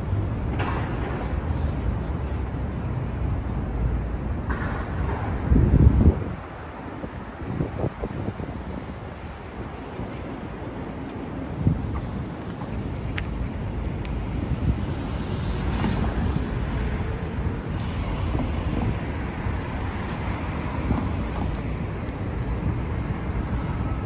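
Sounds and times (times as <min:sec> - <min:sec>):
low rumble of traffic: 0:00.0 - 0:24.0.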